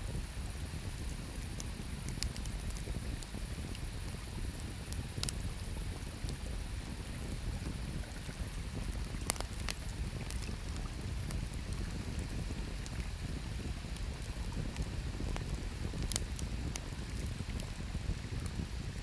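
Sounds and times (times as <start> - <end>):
campfire crackling and popping: 0.6 - 19.0.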